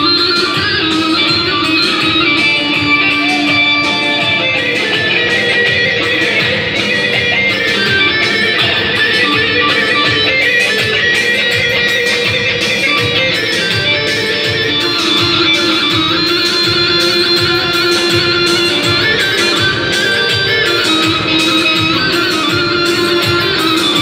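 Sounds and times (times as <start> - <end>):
amplified plucked-string melody: 0.0 - 24.0
steady drum beat: 0.6 - 23.8.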